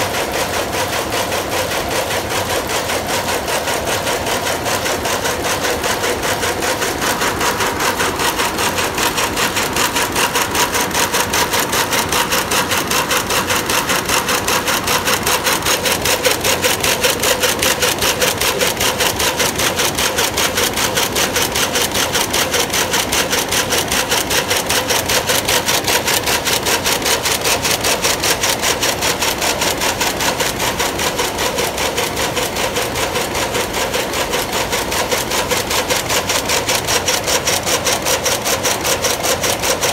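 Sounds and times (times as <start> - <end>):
loom clattering: 0.0 - 39.9.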